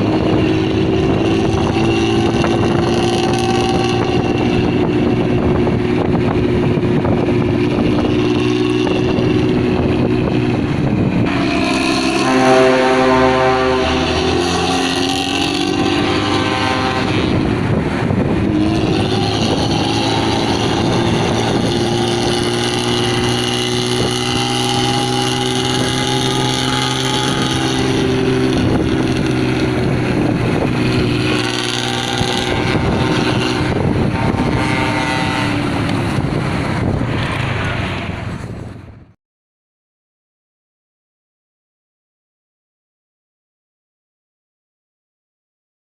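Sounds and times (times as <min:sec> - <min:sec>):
bus diesel engine revving: 0:00.0 - 0:38.2.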